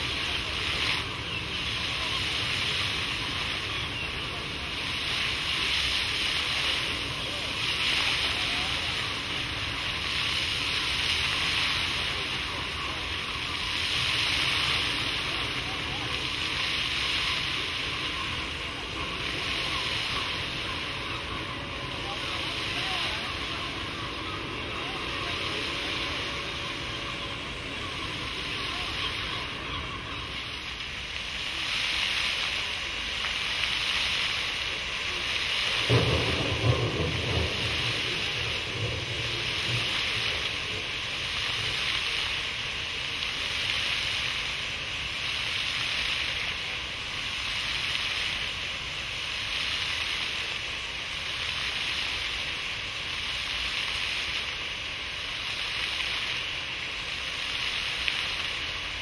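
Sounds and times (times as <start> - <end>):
fountain jets splashing: 0.0 - 59.0.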